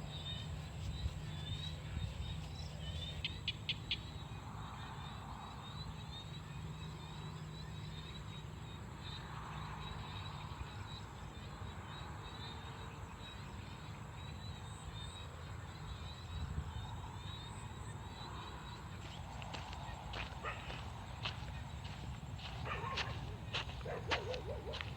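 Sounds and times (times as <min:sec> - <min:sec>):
crickets calling: 0:00.0 - 0:24.9
frogs calling: 0:03.0 - 0:24.9.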